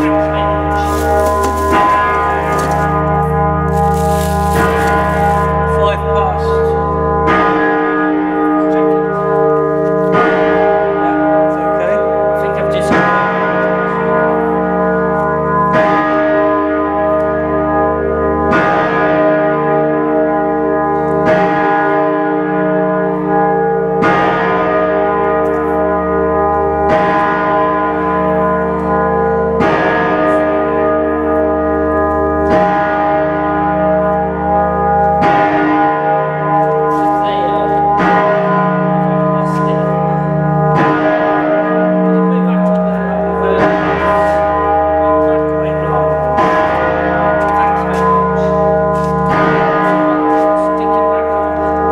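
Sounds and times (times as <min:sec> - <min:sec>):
large bell tolling: 0:00.0 - 0:51.9.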